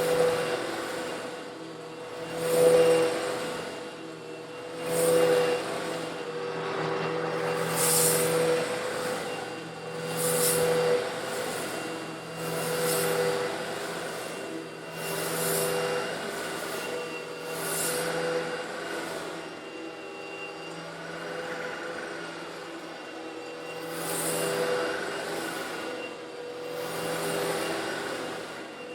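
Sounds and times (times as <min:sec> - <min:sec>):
vacuum cleaner running: 0:00.0 - 0:28.9.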